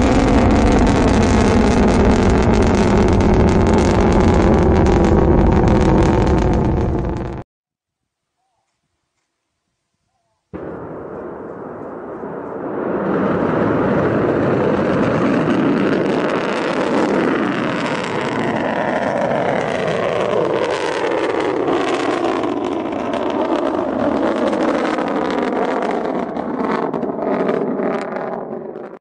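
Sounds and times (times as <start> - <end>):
rocket motor roaring: 0.0 - 7.4, 10.8 - 28.9.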